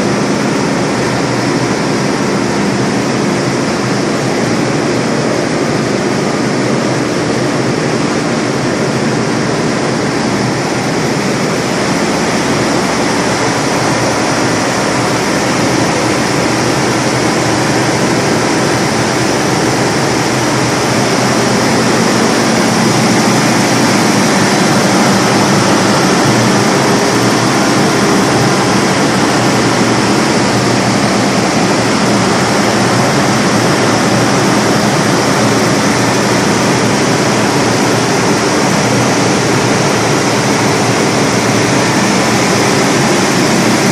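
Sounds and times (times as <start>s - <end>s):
diesel generator running: 0.0s - 43.9s.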